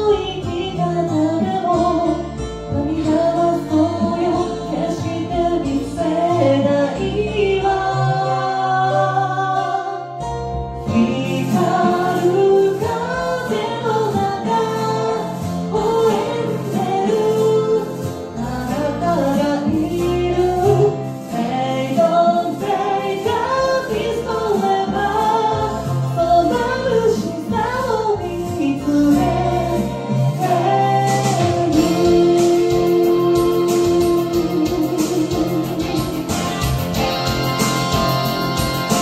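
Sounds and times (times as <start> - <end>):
karaoke backing track: 0.0 - 39.0
person singing pop ballad: 0.0 - 39.0.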